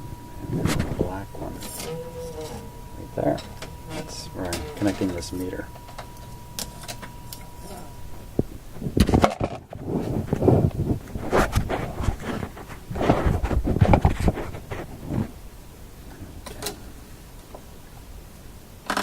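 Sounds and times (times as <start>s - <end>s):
test leads rustling and clunking: 0.0s - 15.4s.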